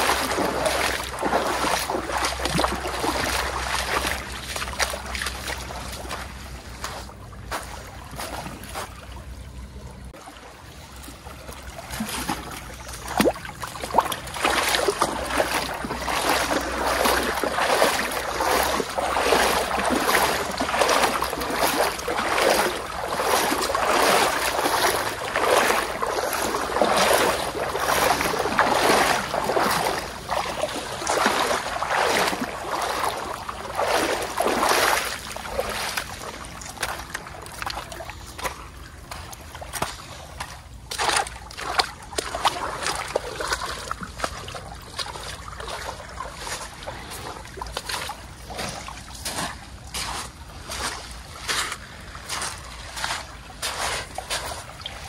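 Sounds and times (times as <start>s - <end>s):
water splashing and sloshing: 0.0s - 55.0s.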